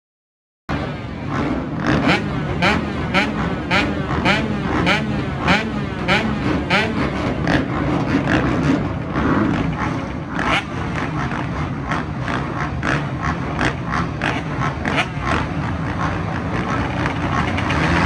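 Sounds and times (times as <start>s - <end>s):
dirt bike engines rumbling: 0.7s - 18.0s.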